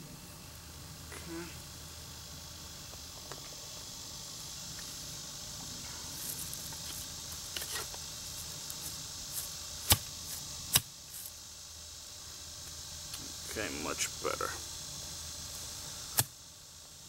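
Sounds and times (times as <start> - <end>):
insects hissing: 0.0 - 17.0.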